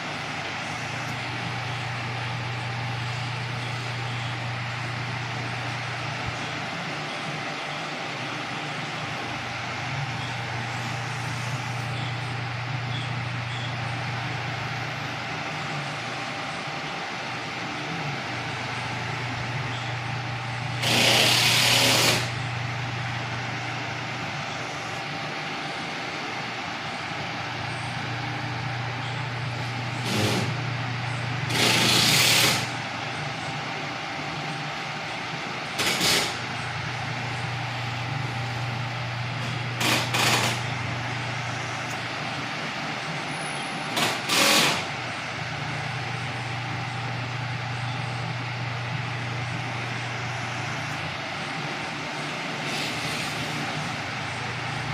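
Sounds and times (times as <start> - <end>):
fan motor humming: 0.0 - 54.9.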